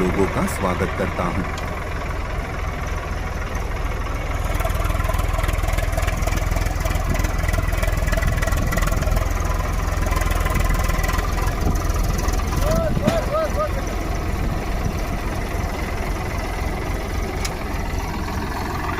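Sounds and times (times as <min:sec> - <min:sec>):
heavy vehicle engine rumbling: 0:00.0 - 0:18.9.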